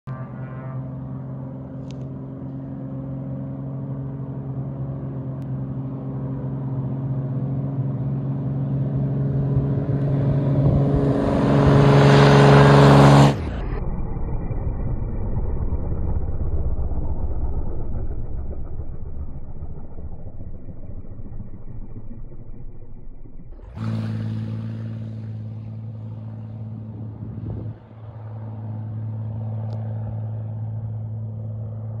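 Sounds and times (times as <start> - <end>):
propeller airplane engine drone: 0.0 - 32.0.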